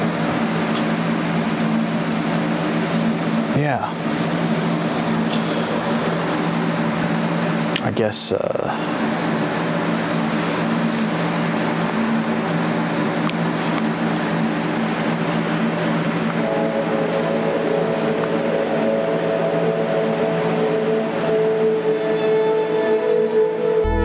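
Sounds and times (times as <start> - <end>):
ambient drone music: 0.0 - 7.8, 8.4 - 24.0.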